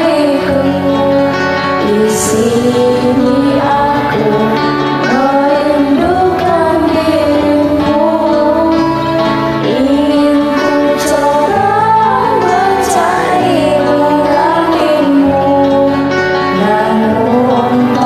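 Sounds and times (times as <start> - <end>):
karaoke backing track: 0.0 - 18.0
woman singing: 0.0 - 18.0.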